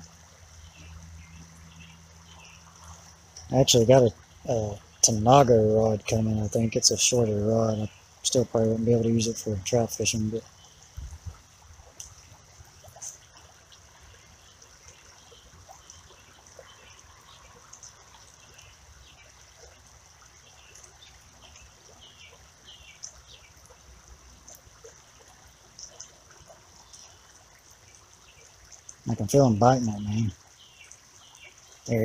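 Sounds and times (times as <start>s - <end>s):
creek water trickling: 0.0s - 32.0s.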